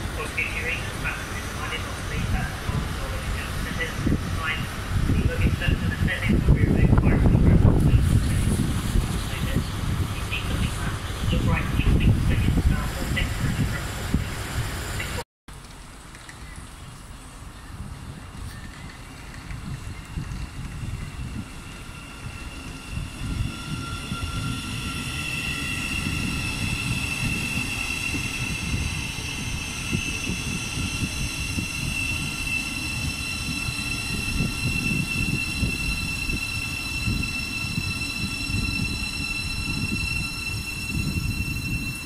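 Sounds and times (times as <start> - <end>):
electric train whine: 0.0 - 15.2, 17.6 - 42.0
train wheels rumbling on rails: 0.0 - 42.0.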